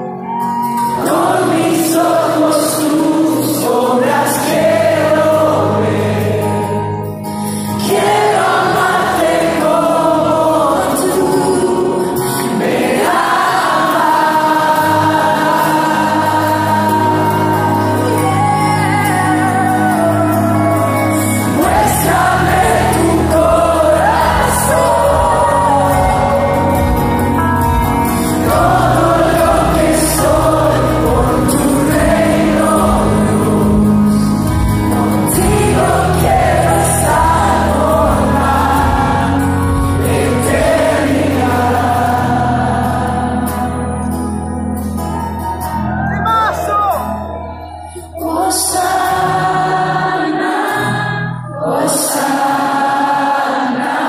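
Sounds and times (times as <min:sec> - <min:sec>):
worship band playing: 0:00.0 - 0:54.0
many voices singing together: 0:00.7 - 0:44.6, 0:47.4 - 0:54.0.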